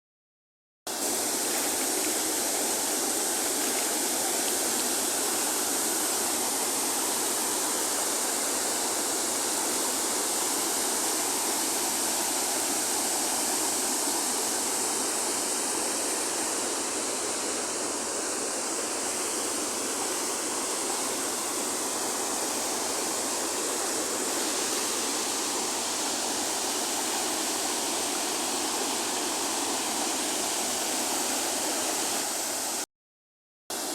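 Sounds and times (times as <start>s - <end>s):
waterfall rushing: 0.9s - 32.8s.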